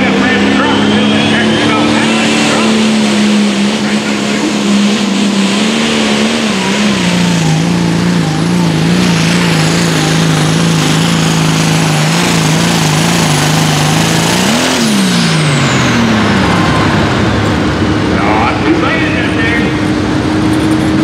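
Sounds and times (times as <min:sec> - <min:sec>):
diesel tractor engine under load: 0:00.0 - 0:21.0.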